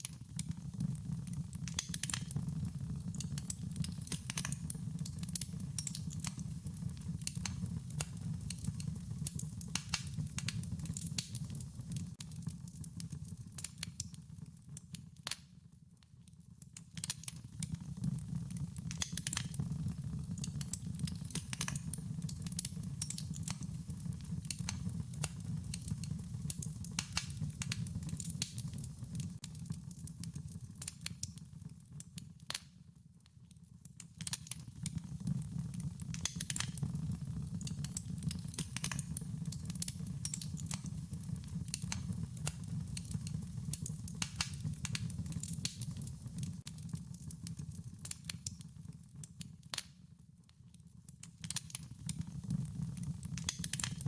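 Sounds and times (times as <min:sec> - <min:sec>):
low steady burning noise: 0:00.0 - 0:54.0
wood fire crackling and popping: 0:00.0 - 0:54.0.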